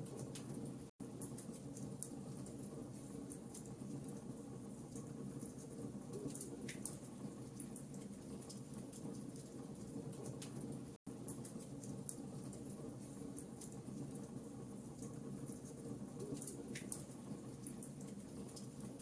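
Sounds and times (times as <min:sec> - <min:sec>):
low rumble of burning fire: 0:00.0 - 0:19.0
wood fire crackling and popping: 0:00.0 - 0:19.0.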